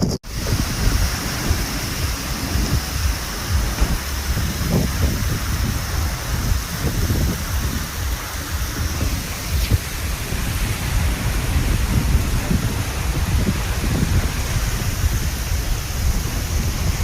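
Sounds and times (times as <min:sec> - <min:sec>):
low fluttering rumble: 0:00.0 - 0:17.0
rain pouring: 0:00.0 - 0:17.0.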